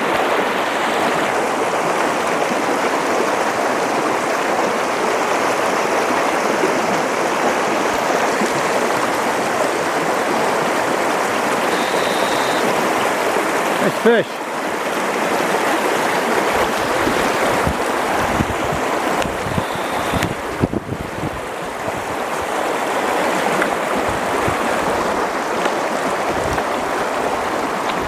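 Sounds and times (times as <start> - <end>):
creek water running over rocks: 0.0 - 28.0.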